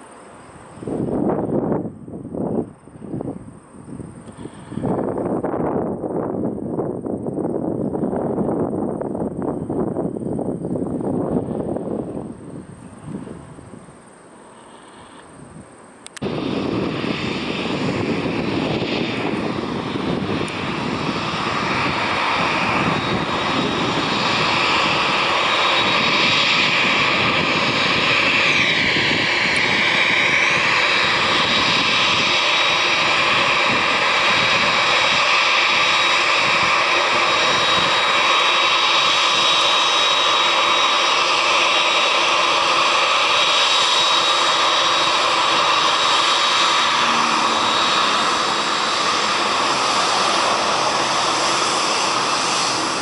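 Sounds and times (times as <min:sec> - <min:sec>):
jet engine whine: 0:00.0 - 0:53.0.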